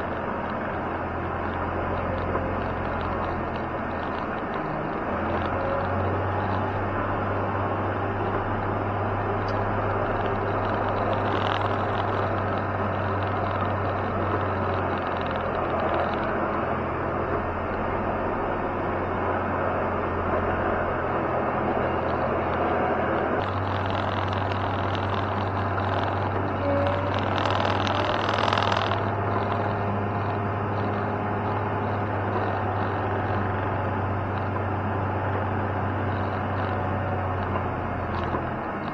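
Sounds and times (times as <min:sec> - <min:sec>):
snow-removal machine engine running: 0:00.0 - 0:38.9.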